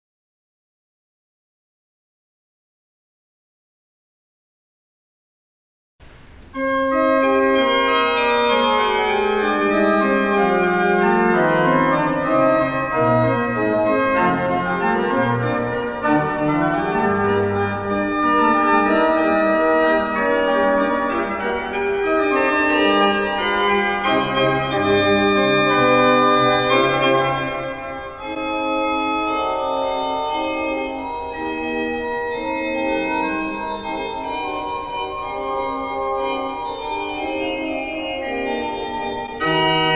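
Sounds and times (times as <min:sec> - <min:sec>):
church pipe organ playing: 0:06.5 - 0:39.9.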